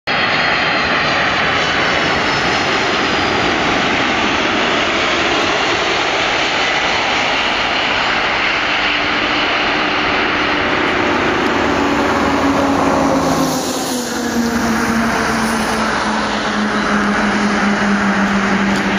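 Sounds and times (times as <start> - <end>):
high jet whine falling in pitch: 0.1 - 18.9
jet engines roaring: 0.1 - 18.9
low engine hum: 0.1 - 18.9.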